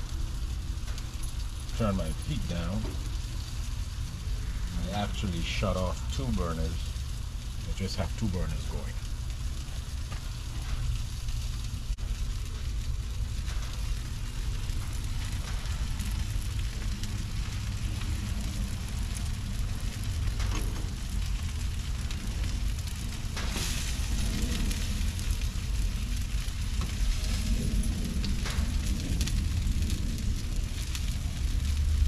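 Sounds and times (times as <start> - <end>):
chicken sizzling on a grill: 0.0 - 32.0
low steady rumble: 0.0 - 32.0.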